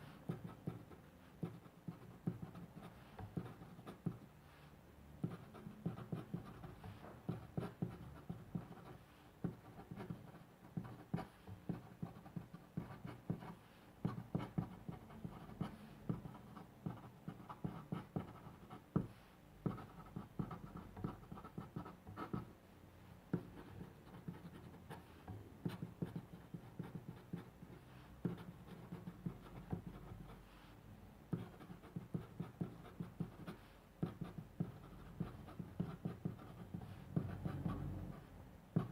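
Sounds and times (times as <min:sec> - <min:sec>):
pen scratching on paper: 0:00.0 - 0:04.3, 0:05.2 - 0:22.5, 0:23.3 - 0:30.6, 0:31.3 - 0:38.9.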